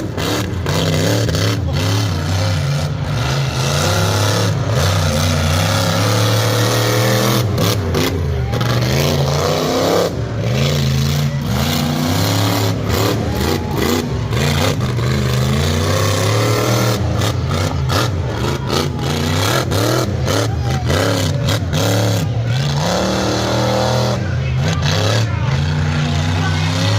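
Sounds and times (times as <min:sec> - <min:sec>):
truck engine revving hard: 0:00.0 - 0:26.9.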